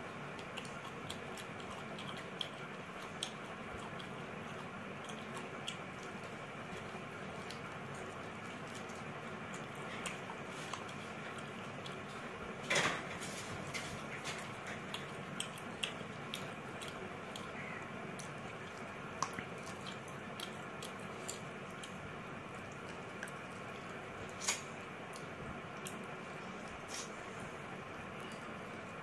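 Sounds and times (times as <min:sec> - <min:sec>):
chewing with wet clicks: 0:00.0 - 0:12.7, 0:13.5 - 0:29.0.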